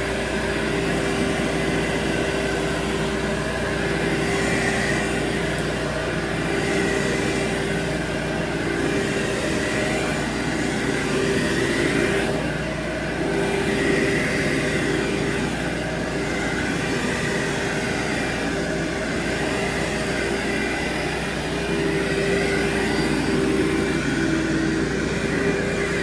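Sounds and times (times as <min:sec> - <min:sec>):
carpet cleaning machine whining: 0:00.0 - 0:26.0
pressure washer hissing: 0:00.0 - 0:26.0.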